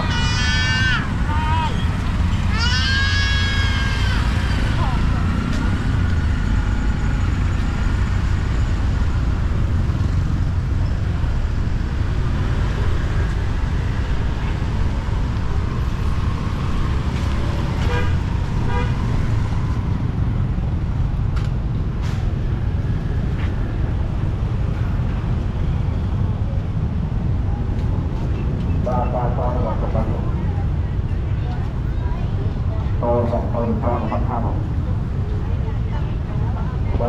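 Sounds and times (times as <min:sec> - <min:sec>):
rumble of passing vehicles: 0:00.0 - 0:37.0.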